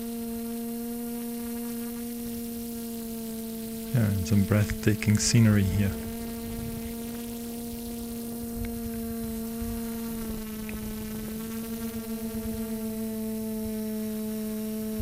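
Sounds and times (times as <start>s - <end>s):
quadcopter motors humming: 0.0s - 15.0s.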